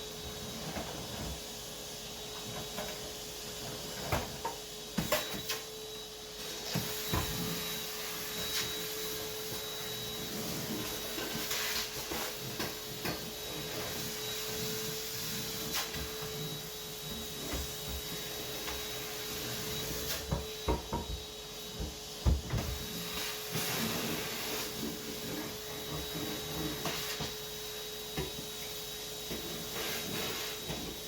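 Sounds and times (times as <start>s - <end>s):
vacuum cleaner bumping furniture: 0.0s - 31.0s
vacuum cleaner running: 0.0s - 31.0s.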